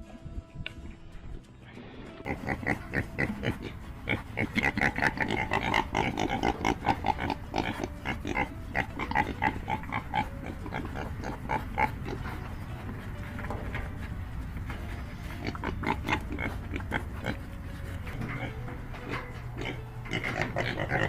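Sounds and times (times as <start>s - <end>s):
pig grunting and squealing: 2.2s - 21.0s.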